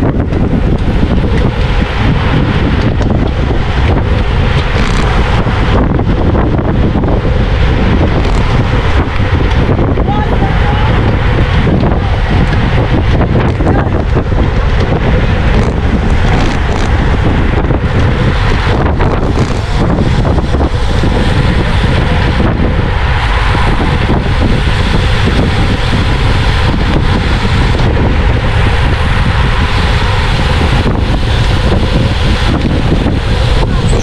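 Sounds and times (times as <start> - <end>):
deep rumble: 0.0 - 34.0
wind buffeting microphone: 0.0 - 34.0.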